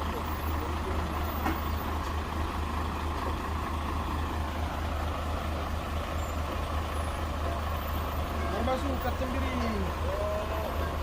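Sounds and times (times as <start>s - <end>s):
heavy truck engine running: 0.0s - 11.0s.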